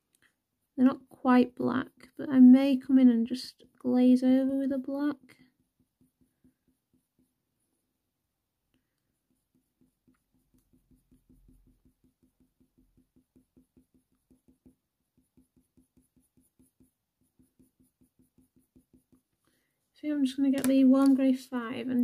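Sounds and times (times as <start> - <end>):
pencil scratching on paper: 0.8 - 8.0, 8.8 - 19.4.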